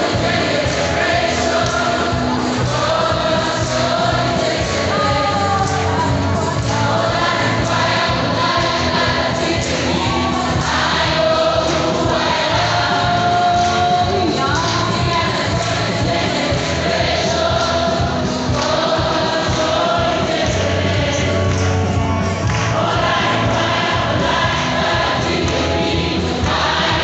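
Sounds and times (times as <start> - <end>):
congregation and choir singing: 0.0 - 27.0.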